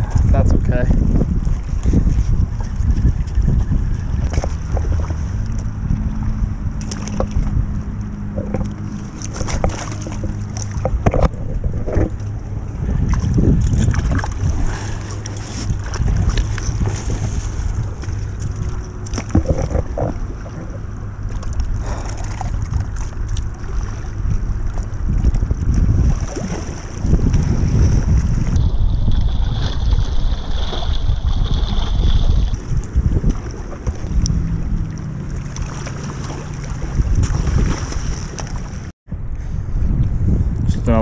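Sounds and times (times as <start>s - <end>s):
wind rumbling on microphone: 0.0s - 41.0s.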